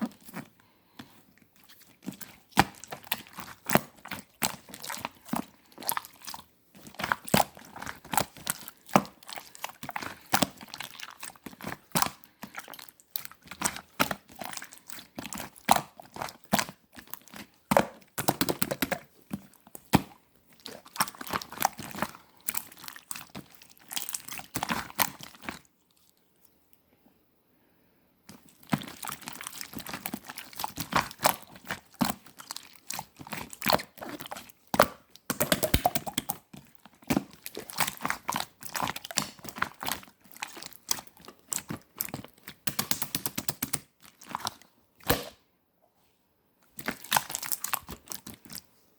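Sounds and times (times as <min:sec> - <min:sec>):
slime squeezed by hand: 0:00.0 - 0:26.1, 0:28.3 - 0:45.4, 0:46.7 - 0:48.7.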